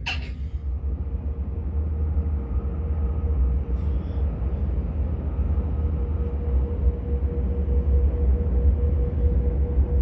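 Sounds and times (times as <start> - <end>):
train running low rumble: 0.0 - 10.0.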